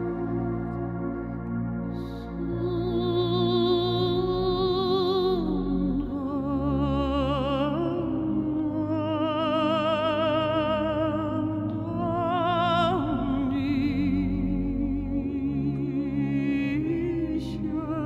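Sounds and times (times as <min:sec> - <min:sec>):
low musical accompaniment: 0:00.0 - 0:18.0
singing voice with vibrato: 0:02.0 - 0:18.0.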